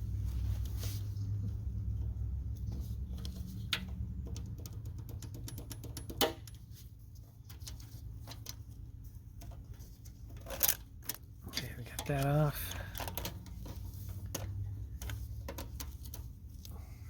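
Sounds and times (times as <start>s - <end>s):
light clicks of parts handled: 0.5s - 16.8s.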